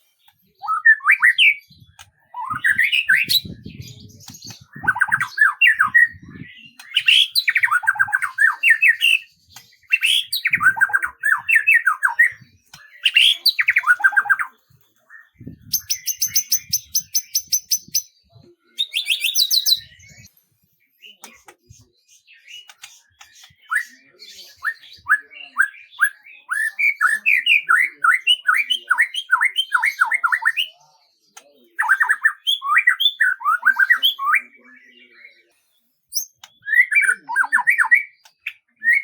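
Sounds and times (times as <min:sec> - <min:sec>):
songbird singing whistled notes: 0:00.0 - 0:20.3, 0:20.9 - 0:39.0.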